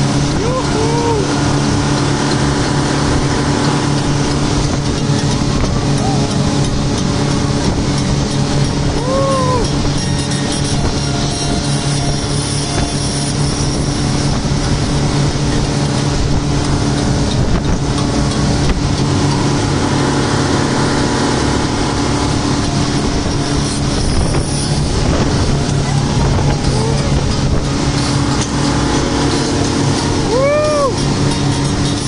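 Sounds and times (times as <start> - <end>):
churning water rushing: 0.0 - 32.0
speedboat engine drone: 0.0 - 32.0
wind: 0.0 - 32.0.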